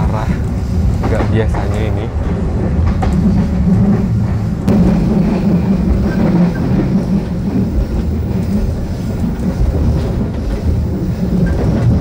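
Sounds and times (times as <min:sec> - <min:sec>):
train carriage rumbling on track: 0:00.0 - 0:12.0.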